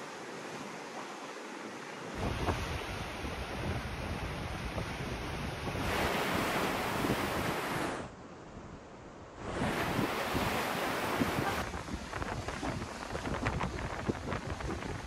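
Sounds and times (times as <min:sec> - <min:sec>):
sea waves breaking over rocks: 0:00.0 - 0:08.3, 0:09.3 - 0:15.0.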